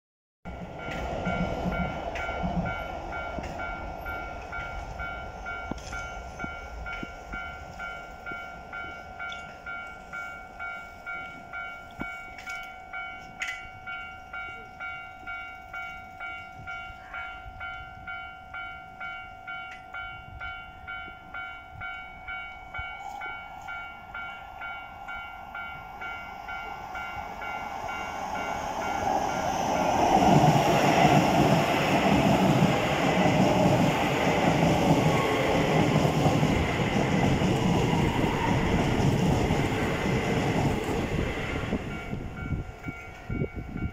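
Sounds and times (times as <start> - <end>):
electric train passing: 0.5 - 43.9.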